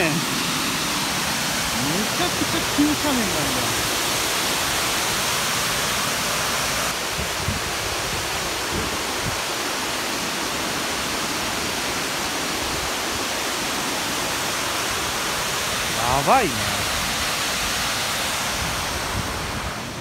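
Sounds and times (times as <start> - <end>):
water rushing over a weir: 0.0 - 20.0.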